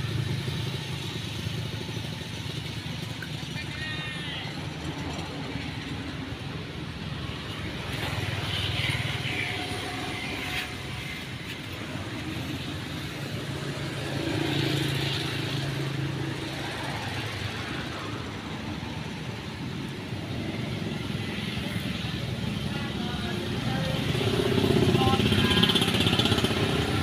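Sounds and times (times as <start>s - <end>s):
passing motor vehicles: 0.0s - 27.0s.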